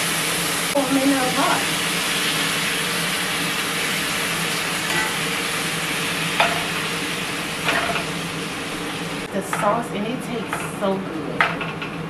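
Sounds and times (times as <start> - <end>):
mushrooms sizzling in oil: 0.0 - 11.1.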